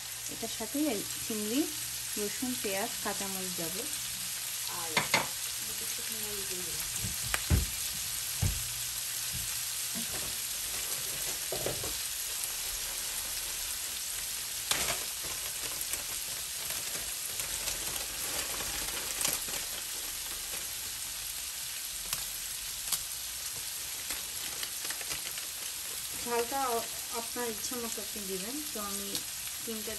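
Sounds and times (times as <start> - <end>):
food sizzling in hot oil: 0.0 - 29.9.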